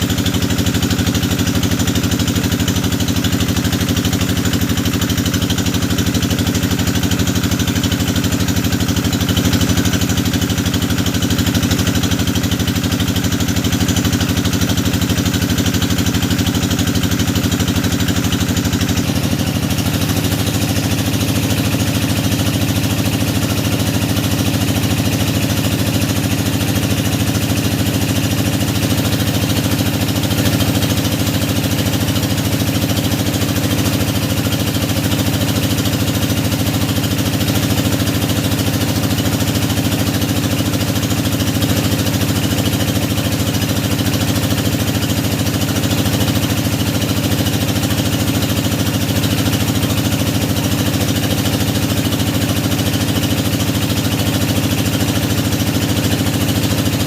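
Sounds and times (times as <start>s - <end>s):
drilling machine engine running: 0.0s - 57.0s.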